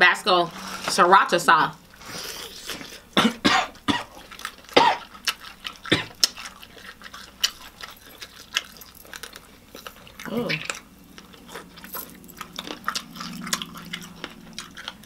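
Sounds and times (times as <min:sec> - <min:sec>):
crunching fried chicken: 0:02.0 - 0:15.0.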